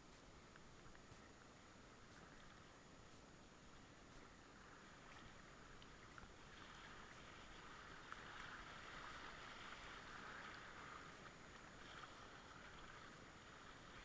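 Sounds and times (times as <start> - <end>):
paddle splashes: 0.0 - 14.0.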